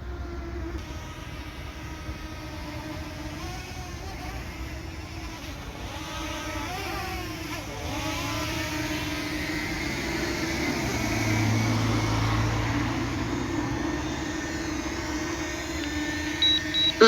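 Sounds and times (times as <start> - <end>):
drone propellers whirring: 0.1 - 17.0.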